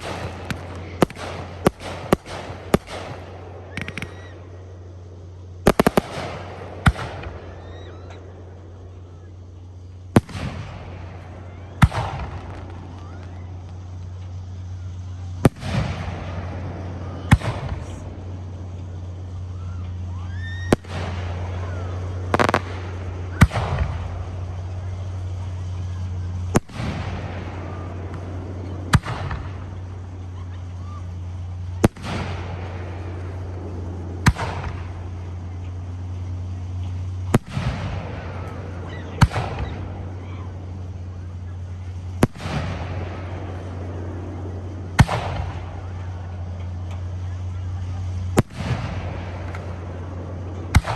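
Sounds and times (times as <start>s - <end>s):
faint rising whistles: 0.0s - 50.9s
fireworks bursting with bangs: 0.0s - 50.9s
steady low hum: 0.0s - 50.9s.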